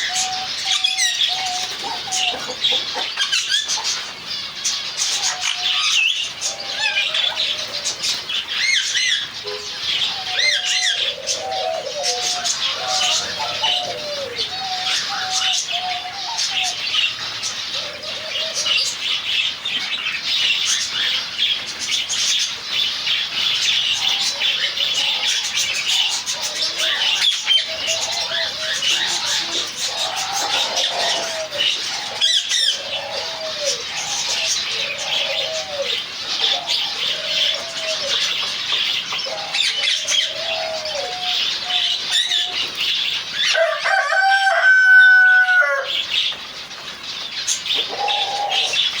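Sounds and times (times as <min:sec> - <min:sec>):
finches chirping and twittering: 0:00.0 - 0:43.5.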